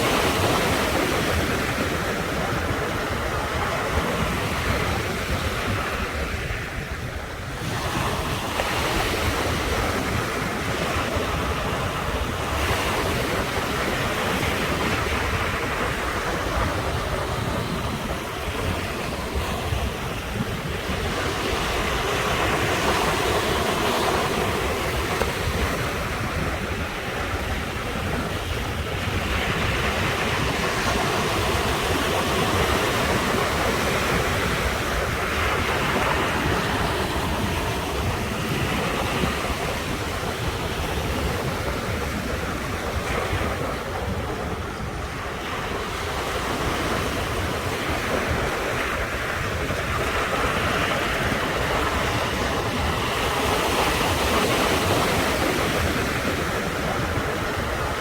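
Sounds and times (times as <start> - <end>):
ocean waves breaking on shore: 0.0 - 58.0
wind on microphone: 0.0 - 58.0.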